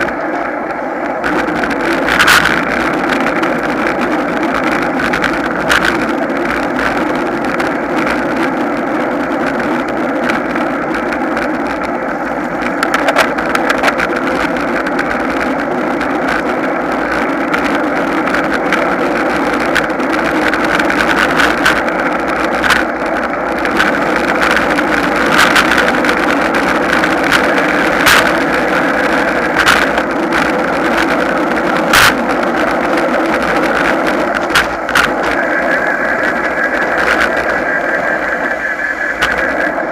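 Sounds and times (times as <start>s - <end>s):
wind and road rush: 0.0s - 39.9s.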